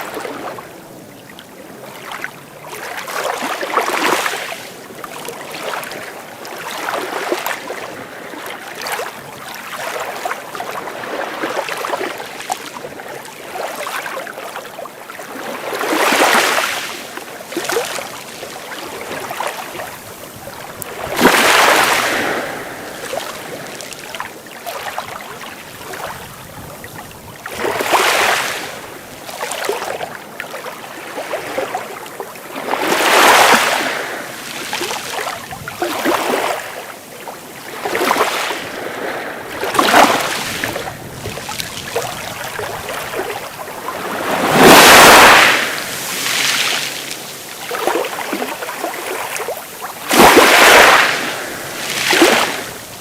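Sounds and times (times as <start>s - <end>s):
sea waves breaking: 0.0s - 53.0s.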